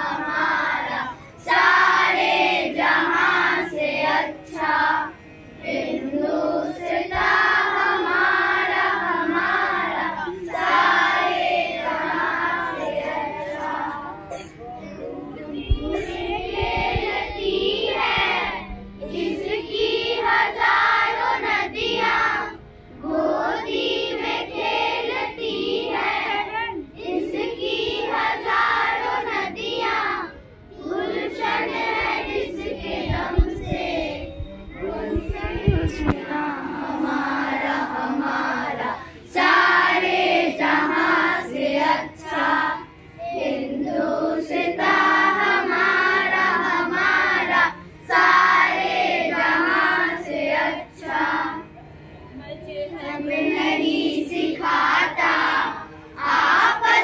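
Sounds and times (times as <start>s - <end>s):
children singing in unison: 0.0s - 51.7s, 53.0s - 57.0s.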